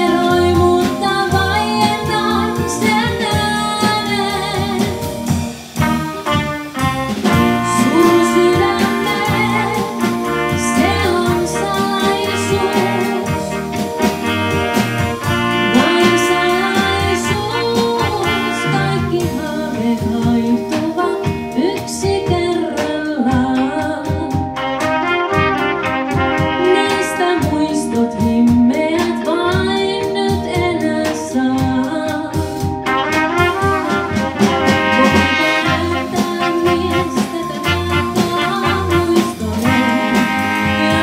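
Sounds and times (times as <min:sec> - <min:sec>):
big band swing music: 0:00.0 - 0:41.0.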